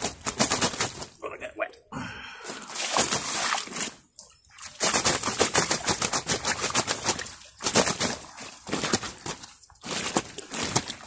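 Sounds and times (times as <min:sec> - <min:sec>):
fish thrashing wet slapping: 0:00.0 - 0:01.2, 0:02.5 - 0:11.0.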